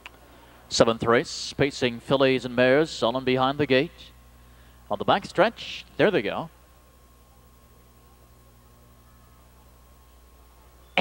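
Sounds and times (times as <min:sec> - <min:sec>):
faint low hum and hiss: 0:00.0 - 0:11.0.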